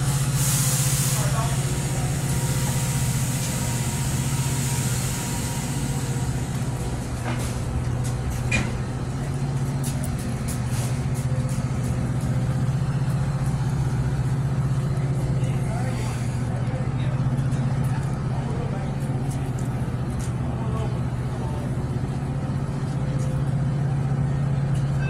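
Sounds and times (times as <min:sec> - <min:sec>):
diesel locomotive droning: 0:00.0 - 0:25.0.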